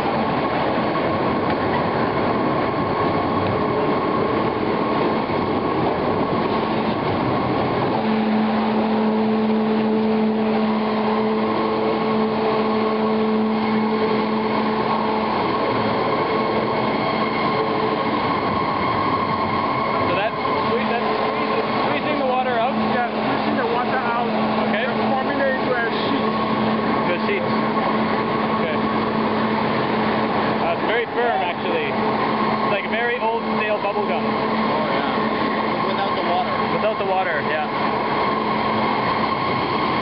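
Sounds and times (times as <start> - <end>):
machinery mechanical din: 0.0 - 40.0.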